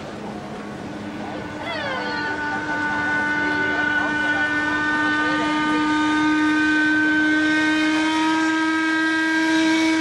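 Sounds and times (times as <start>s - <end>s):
steam whistle blast: 1.7s - 10.0s.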